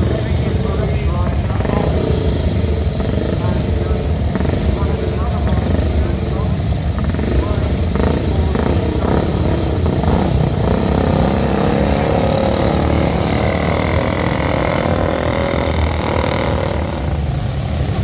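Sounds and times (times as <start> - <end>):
engines rumbling: 0.0 - 18.0.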